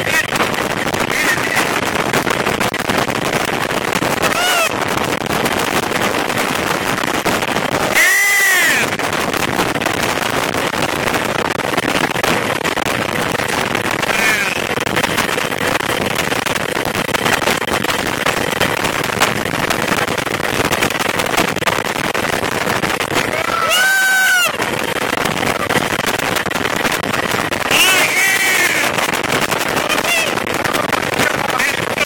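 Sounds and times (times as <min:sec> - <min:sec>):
wind on microphone: 0:00.0 - 0:32.0.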